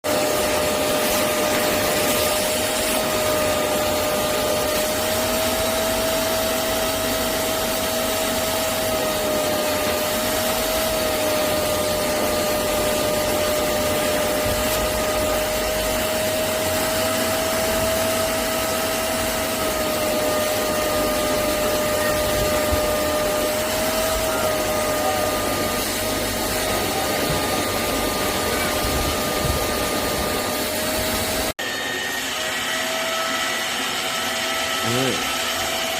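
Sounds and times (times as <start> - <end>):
spot cleaner suction motor whine: 0.0 - 35.9.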